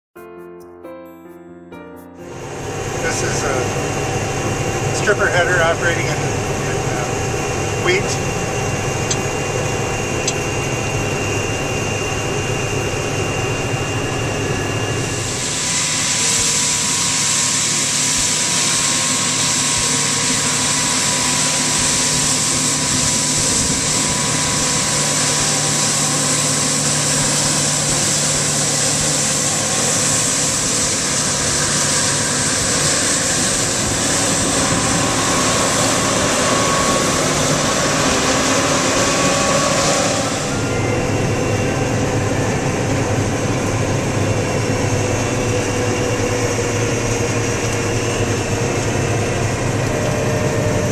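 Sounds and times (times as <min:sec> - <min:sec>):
loud rushing hiss: 0:02.2 - 0:47.0
combine machine hum: 0:02.2 - 0:50.9.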